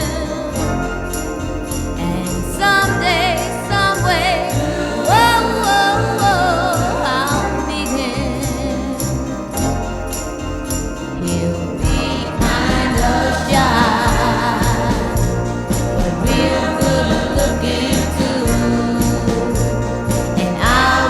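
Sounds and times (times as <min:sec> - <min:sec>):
echoing pop backing with beat: 0:00.0 - 0:21.0
woman singing with vibrato: 0:00.0 - 0:21.0.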